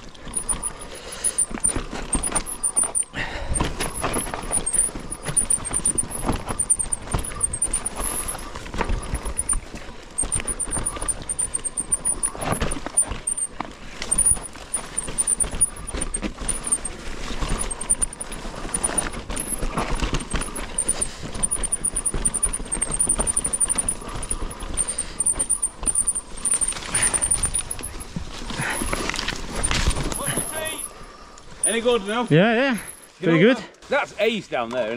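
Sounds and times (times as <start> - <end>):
bike knocking and rattling: 0.0 - 32.2
wind and tyre noise: 0.0 - 32.4.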